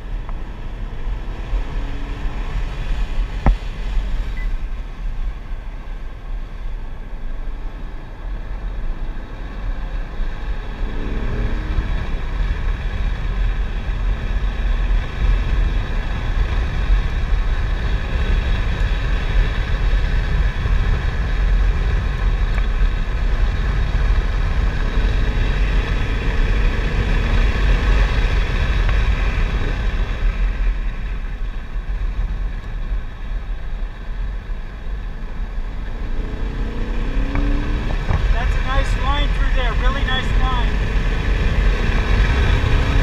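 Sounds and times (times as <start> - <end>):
car engine running hard: 0.0 - 43.0
wind and road noise: 0.0 - 43.0.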